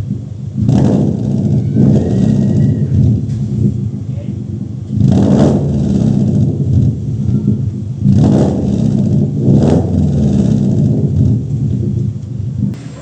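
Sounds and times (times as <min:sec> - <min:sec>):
car exhaust rumble: 0:00.0 - 0:13.0
engine throttle blips: 0:00.0 - 0:13.0.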